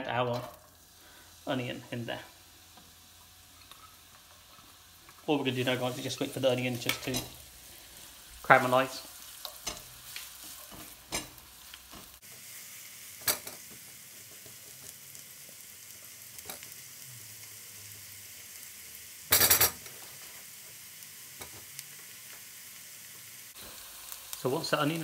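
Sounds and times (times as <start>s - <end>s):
onion sizzling in a wok: 0.0s - 25.0s.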